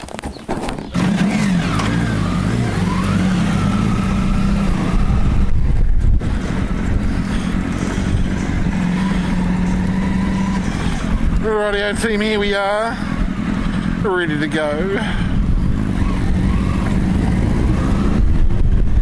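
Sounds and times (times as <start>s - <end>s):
motorcycle engine starting and revving: 0.0s - 19.0s.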